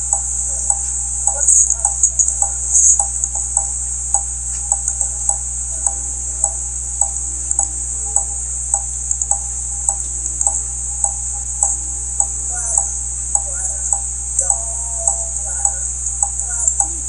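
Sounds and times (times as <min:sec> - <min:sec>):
low electrical hum: 0:00.0 - 0:17.0
steady ticking: 0:00.0 - 0:17.0.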